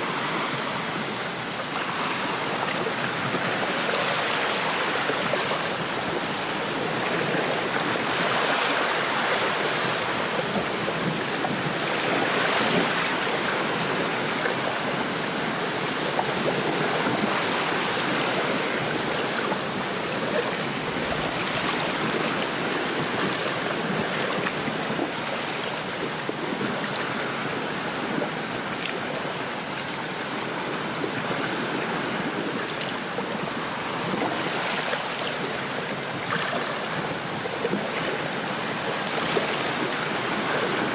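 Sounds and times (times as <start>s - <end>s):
waves lapping at shore: 0.0s - 40.9s.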